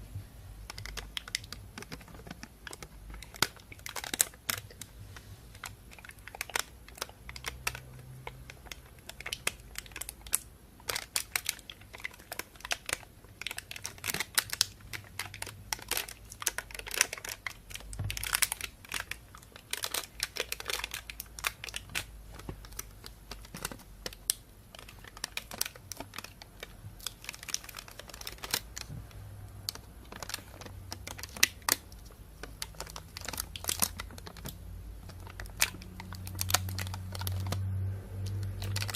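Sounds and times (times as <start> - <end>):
plastic bag crinkling: 0.7 - 38.9.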